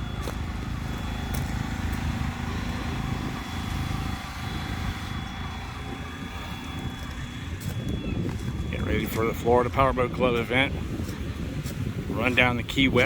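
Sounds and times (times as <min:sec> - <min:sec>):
thin steady high tone: 0:00.0 - 0:10.8
large engine idling: 0:00.0 - 0:13.0.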